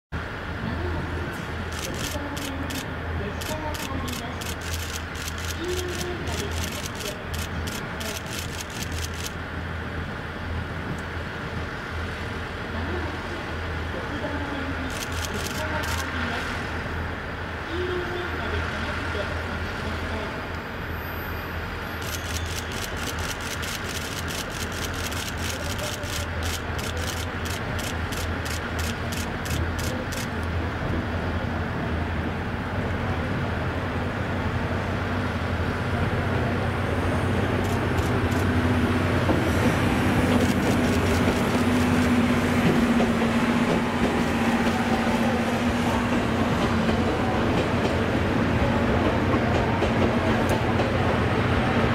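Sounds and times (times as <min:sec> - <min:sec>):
train rumbling through station: 0:00.1 - 0:51.9.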